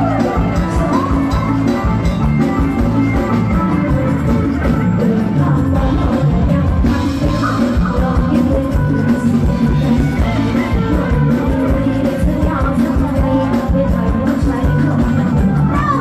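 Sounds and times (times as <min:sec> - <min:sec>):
live band music: 0:00.0 - 0:16.0
person singing: 0:00.0 - 0:16.0.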